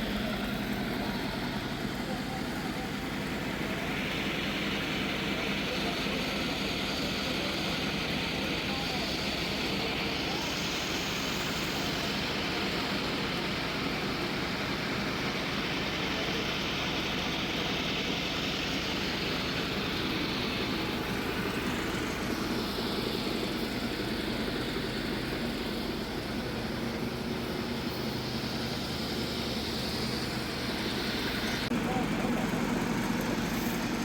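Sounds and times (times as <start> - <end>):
machine droning: 0.0 - 34.0.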